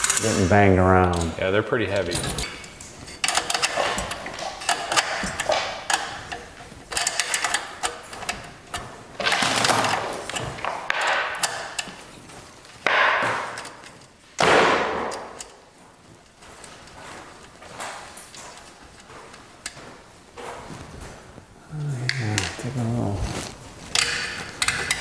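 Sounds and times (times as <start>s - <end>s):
metallic clicking and rattling: 0.0s - 21.4s, 23.4s - 25.0s.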